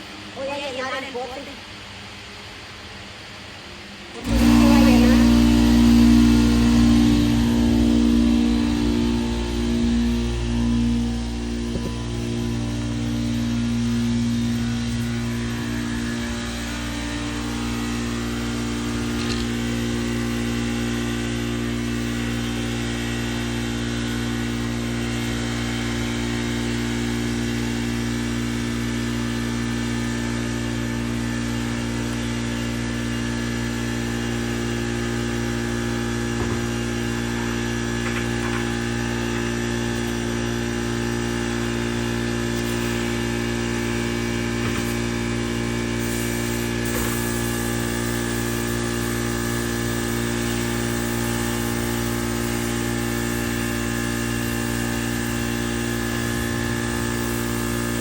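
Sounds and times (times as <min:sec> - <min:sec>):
motor humming: 0:04.0 - 0:58.0.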